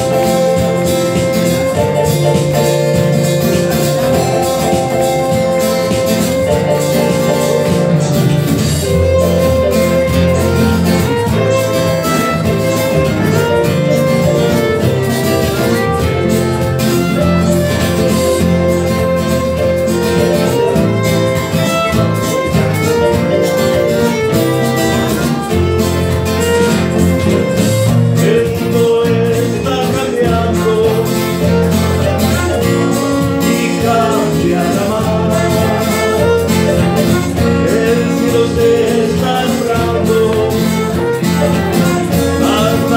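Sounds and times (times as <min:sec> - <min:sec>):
violin melody: 0:00.0 - 0:28.3, 0:30.5 - 0:42.9
steady bass line: 0:00.0 - 0:42.9
strummed acoustic guitar: 0:00.0 - 0:42.9.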